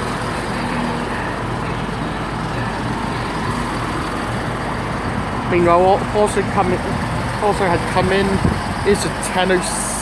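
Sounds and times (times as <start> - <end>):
train diesel engines droning: 0.0 - 10.0.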